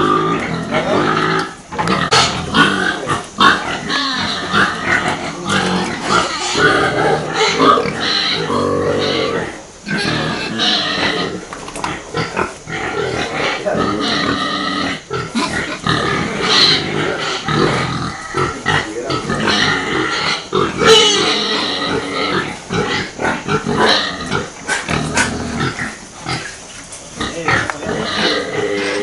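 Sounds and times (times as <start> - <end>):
pigs grunting and calling: 0.0 - 29.0.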